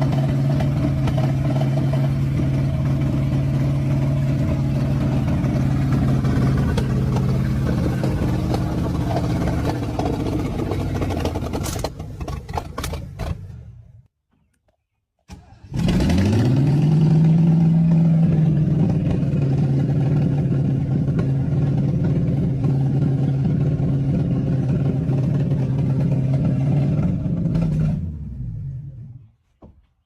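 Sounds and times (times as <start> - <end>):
old car engine revving: 0.0 - 14.1, 15.3 - 29.3.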